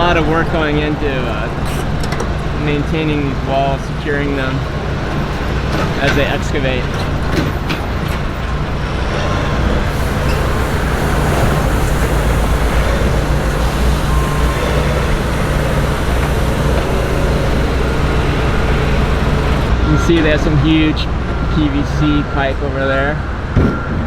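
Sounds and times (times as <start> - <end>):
vehicle engine droning: 0.0 - 22.2
road and traffic noise: 0.0 - 24.0.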